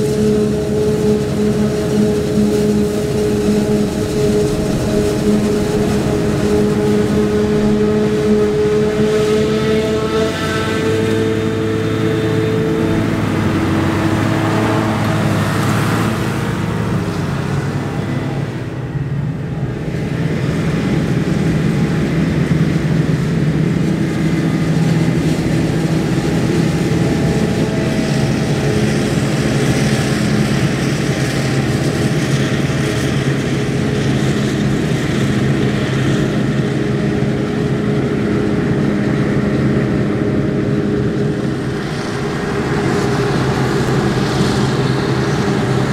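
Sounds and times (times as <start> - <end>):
harvester chopper noise: 0.0 - 19.8, 22.2 - 45.9
harvester engine drone: 0.0 - 45.9.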